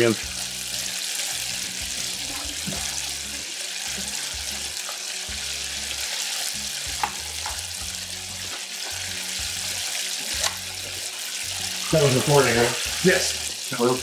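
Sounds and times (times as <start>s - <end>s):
fish frying in oil: 0.0s - 14.0s.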